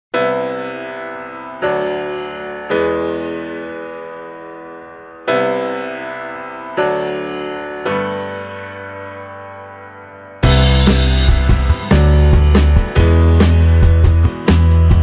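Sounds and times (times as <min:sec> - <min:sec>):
slow piano chords: 0:00.2 - 0:15.0.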